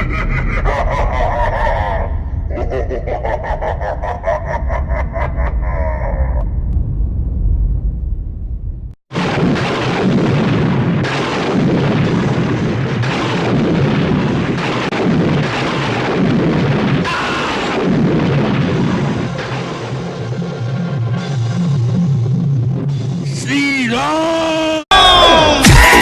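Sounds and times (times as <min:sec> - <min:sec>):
loud dense rumbling: 0:00.0 - 0:22.0.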